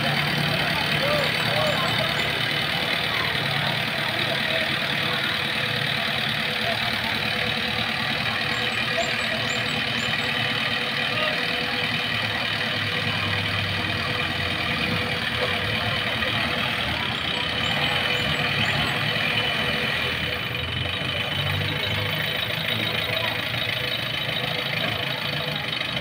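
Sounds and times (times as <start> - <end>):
small engine running at low revs: 0.0 - 26.0.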